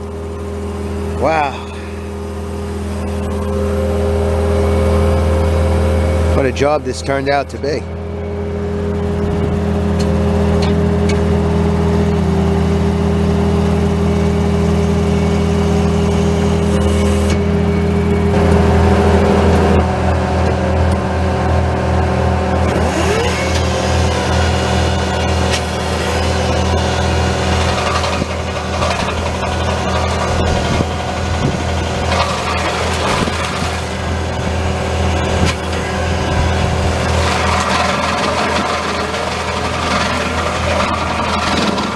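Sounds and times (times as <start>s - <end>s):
diesel engine running: 0.0s - 41.9s
high whine: 0.0s - 41.9s.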